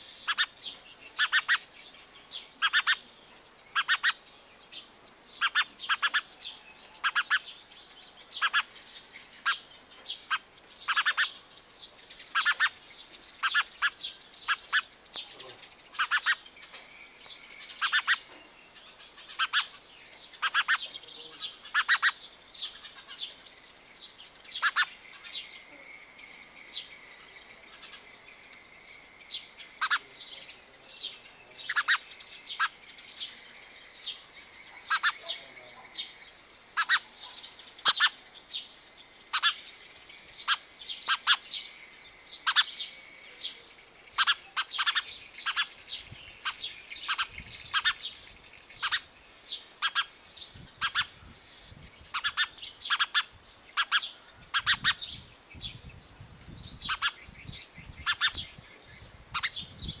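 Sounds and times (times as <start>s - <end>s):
sparrow chirping: 0.0s - 60.0s.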